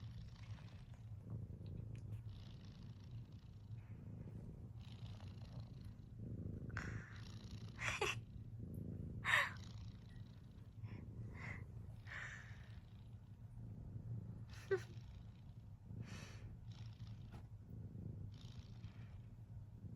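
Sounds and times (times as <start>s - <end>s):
cat snoring: 0.0s - 13.2s, 13.9s - 19.9s.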